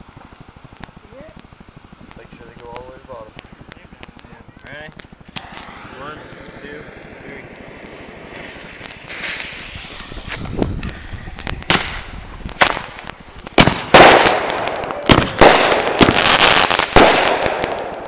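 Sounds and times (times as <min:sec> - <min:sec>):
firework hiss: 0:00.0 - 0:18.0
fireworks banging: 0:00.0 - 0:18.0
fireworks crackling: 0:00.0 - 0:18.0.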